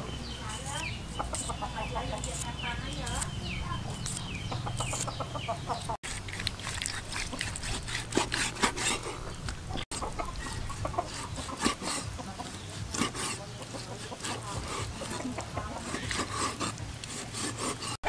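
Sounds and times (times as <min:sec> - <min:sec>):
chickens clucking: 0:00.0 - 0:06.0, 0:06.9 - 0:16.8
knife cutting meat on wooden board: 0:00.5 - 0:05.3, 0:06.1 - 0:18.0.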